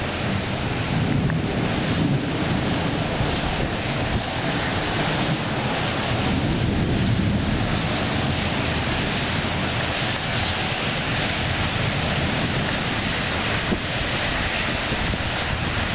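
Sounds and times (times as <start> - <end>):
steady rain: 0.0 - 15.9
thunder rumbling: 0.0 - 15.9.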